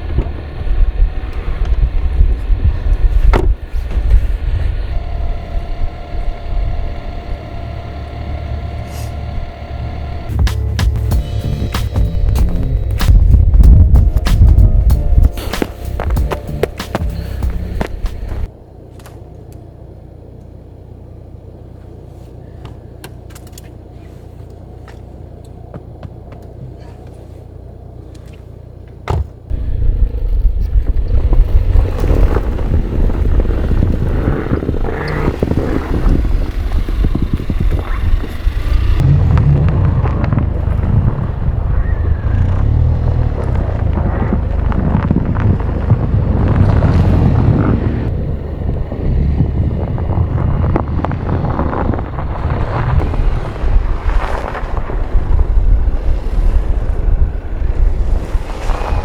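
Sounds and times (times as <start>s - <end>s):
wind buffeting microphone: 0.0s - 18.5s, 29.5s - 59.0s.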